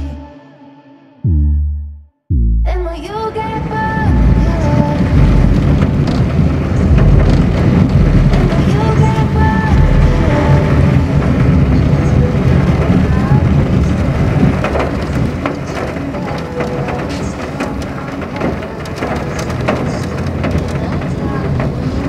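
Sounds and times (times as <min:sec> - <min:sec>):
car rumbling on road: 0:02.6 - 0:22.0
rain hitting car roof and windows: 0:03.2 - 0:22.0.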